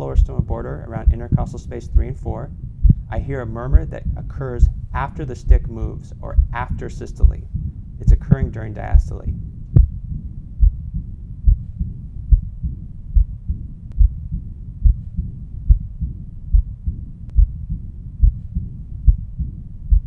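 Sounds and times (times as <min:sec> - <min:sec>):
blowing heart murmur: 0:00.0 - 0:20.0
heartbeat through stethoscope: 0:00.0 - 0:20.0.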